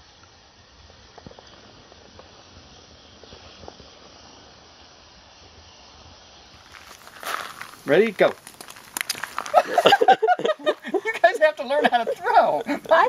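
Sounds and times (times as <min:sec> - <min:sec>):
campfire hissing and crackling: 0:00.0 - 0:13.0.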